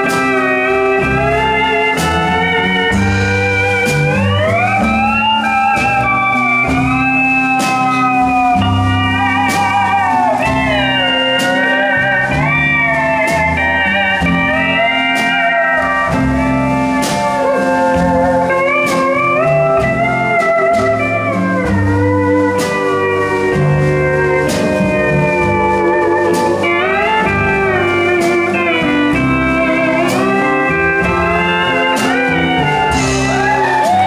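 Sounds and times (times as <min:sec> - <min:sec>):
country band playing: 0:00.0 - 0:34.0
pedal steel guitar melody: 0:00.0 - 0:34.0.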